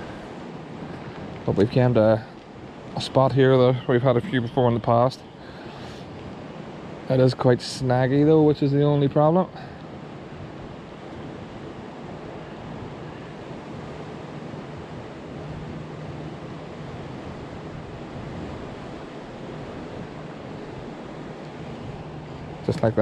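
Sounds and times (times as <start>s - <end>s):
water noise: 0.0s - 23.0s
wind: 0.0s - 23.0s.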